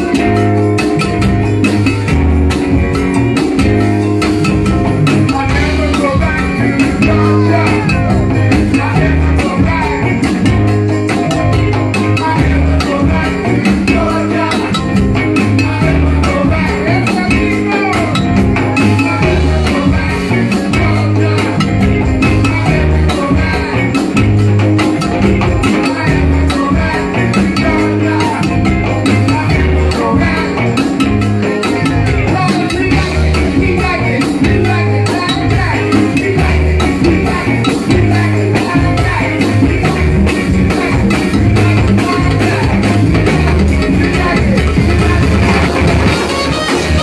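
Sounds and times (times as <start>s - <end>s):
busy percussion: 0.0s - 47.0s
live band playing: 0.0s - 47.0s
pulsing bass line: 0.0s - 47.0s
man singing into microphone: 5.1s - 10.7s, 11.9s - 24.4s, 25.5s - 47.0s.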